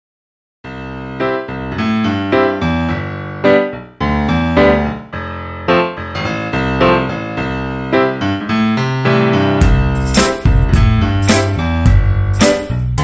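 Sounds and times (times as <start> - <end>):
piano tune: 0.6 - 13.0.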